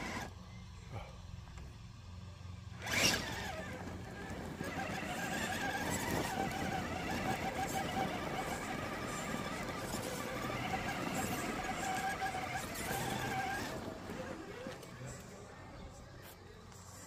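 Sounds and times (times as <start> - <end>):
electric motor and gears whining: 0.0 - 17.0
wheels crawling over dirt and rocks: 0.0 - 17.0.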